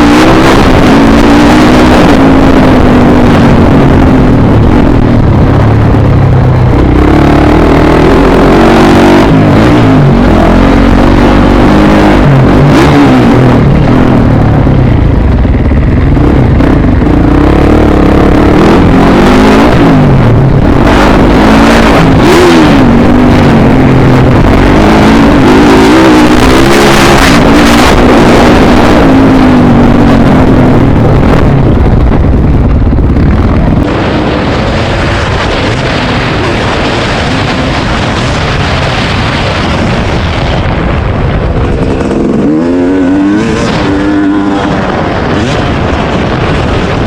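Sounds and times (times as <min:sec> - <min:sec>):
dirt bike engine revving: 0:06.6 - 0:32.0, 0:33.1 - 0:47.0.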